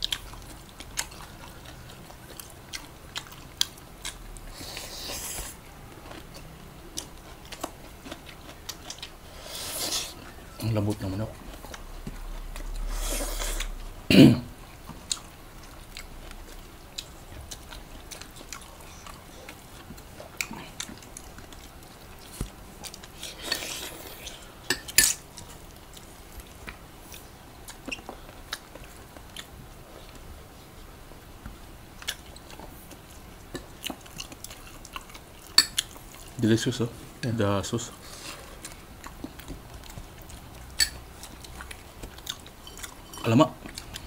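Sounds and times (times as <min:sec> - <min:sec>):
people chewing: 0:00.0 - 0:44.0.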